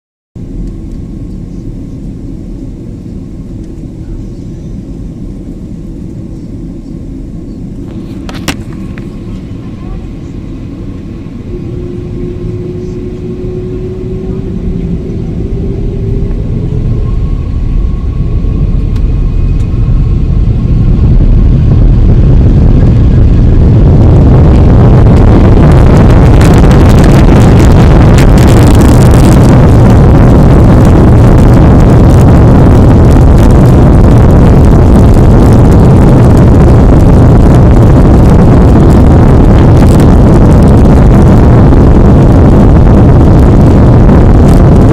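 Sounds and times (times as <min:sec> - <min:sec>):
faint rising whine: 0:00.4 - 0:44.9
jet engines roaring: 0:00.4 - 0:44.9.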